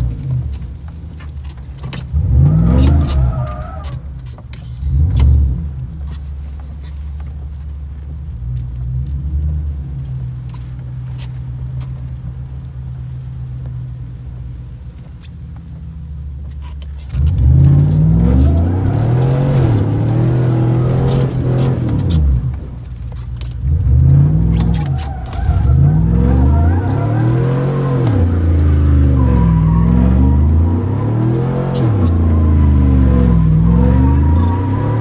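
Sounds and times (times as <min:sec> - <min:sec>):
truck engine running and revving: 0:00.0 - 0:35.0.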